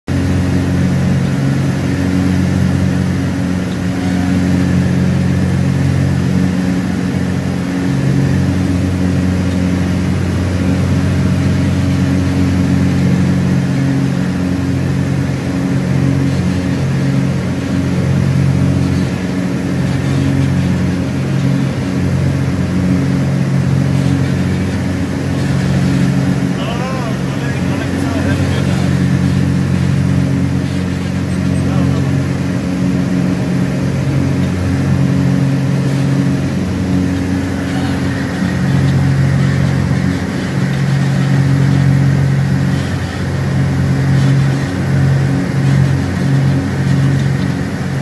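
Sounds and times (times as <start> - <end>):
aircraft engines droning in cabin: 0.1 - 48.0.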